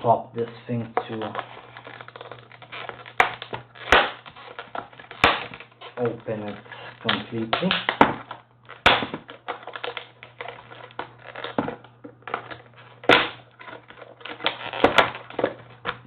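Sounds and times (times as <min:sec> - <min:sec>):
plastic packaging crackling: 0:00.4 - 0:16.0.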